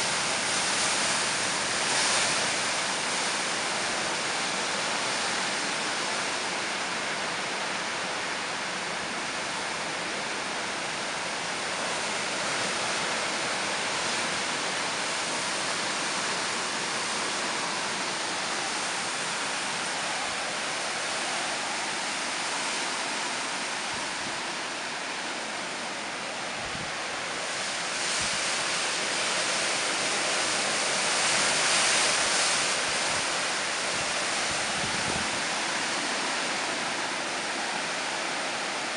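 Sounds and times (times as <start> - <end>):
driving rain: 0.0 - 38.9
strong wind through trees: 0.0 - 38.9.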